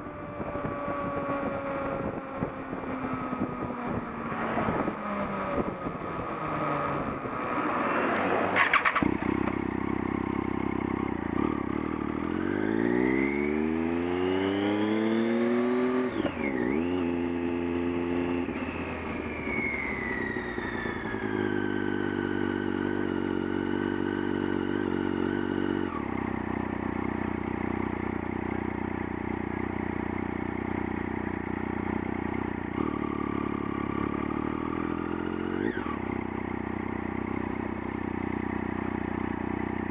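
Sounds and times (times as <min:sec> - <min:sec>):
vehicle engine running: 0:00.0 - 0:13.9, 0:18.2 - 0:39.9.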